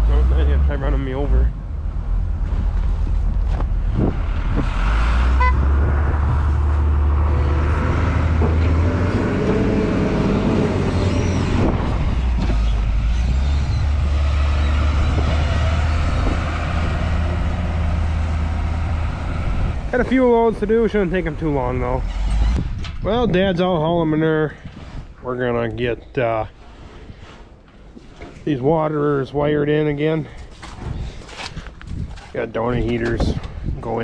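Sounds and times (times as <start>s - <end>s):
diesel engine rumble: 0.0s - 34.0s.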